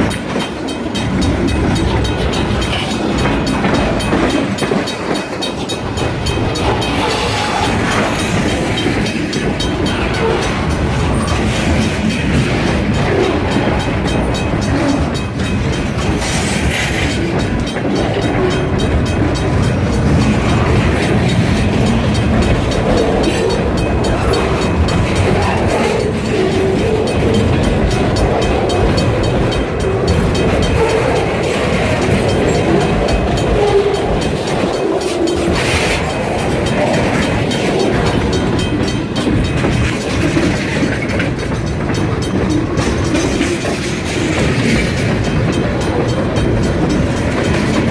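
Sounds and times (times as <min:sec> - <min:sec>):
freight train rolling by: 0:00.0 - 0:47.9
wheels clicking over rail joints: 0:00.0 - 0:47.9.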